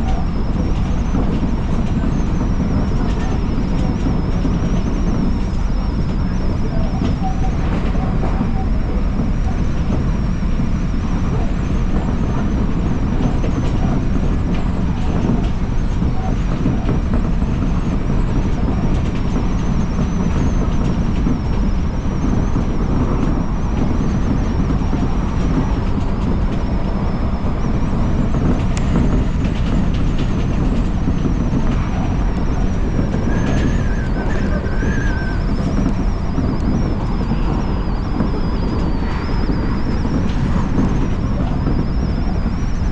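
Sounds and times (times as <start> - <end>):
thin high whine: 0.0 - 42.9
train wheels rumbling on track: 0.0 - 42.9.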